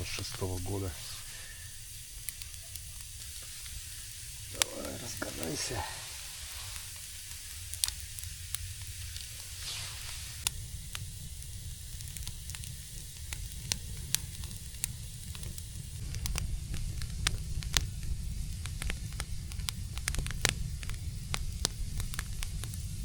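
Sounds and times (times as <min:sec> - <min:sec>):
campfire crackling: 0:00.0 - 0:23.0
steady fire hiss: 0:00.0 - 0:23.0.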